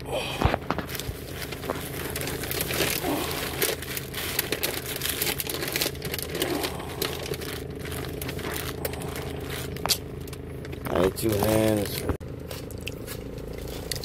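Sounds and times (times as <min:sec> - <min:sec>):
paper wrapper crinkling: 0:00.4 - 0:14.0.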